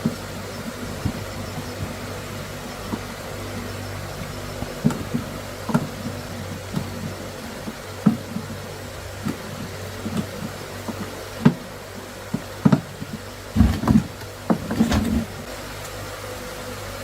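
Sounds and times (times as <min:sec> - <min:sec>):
irregular knocks and clicks: 0:00.0 - 0:15.5
steady low hum: 0:00.0 - 0:16.9.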